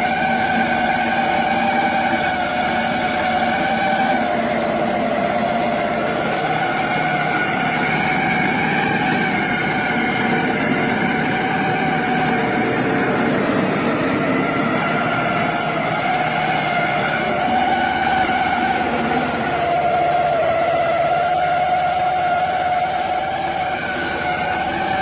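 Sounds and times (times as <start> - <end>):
dense mechanical noise: 0.0 - 25.0
machine motor whining: 0.0 - 25.0.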